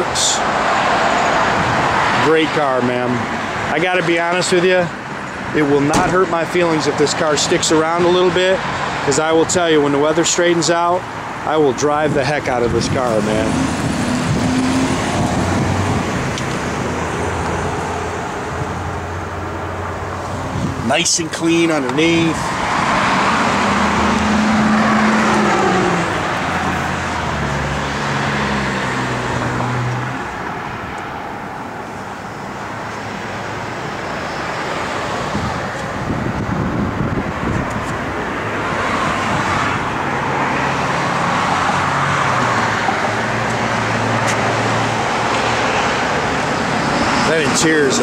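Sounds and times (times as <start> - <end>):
vehicles driving by: 0.0 - 48.0.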